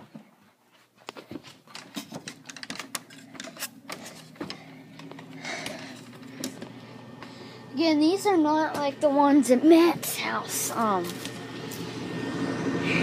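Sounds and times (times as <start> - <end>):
furnace motor hum: 1.1 - 13.0.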